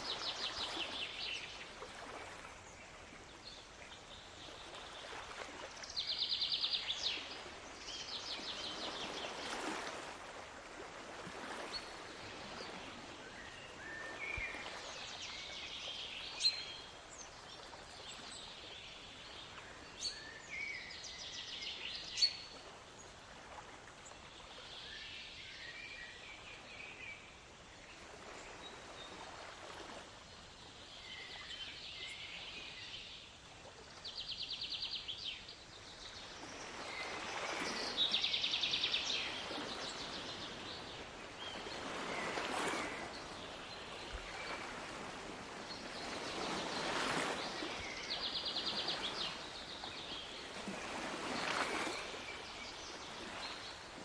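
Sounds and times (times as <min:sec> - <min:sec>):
songbirds chirping: 0:00.0 - 0:10.2, 0:11.3 - 0:54.0
waves: 0:00.0 - 0:54.0.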